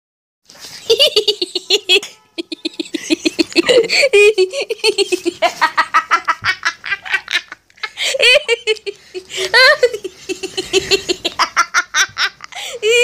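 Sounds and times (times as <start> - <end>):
boy giggling and laughing: 0.8 - 13.0.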